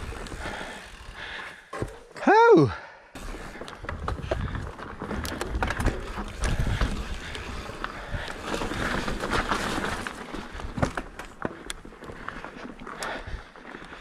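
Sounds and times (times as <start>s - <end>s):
bike knocks and rattles: 0.0s - 2.2s, 3.2s - 12.7s
bike tyres crunching over dirt: 0.0s - 2.2s, 3.2s - 14.0s.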